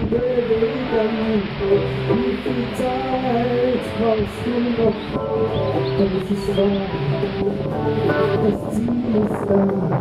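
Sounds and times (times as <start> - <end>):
song with long steady notes: 0.0 - 10.0.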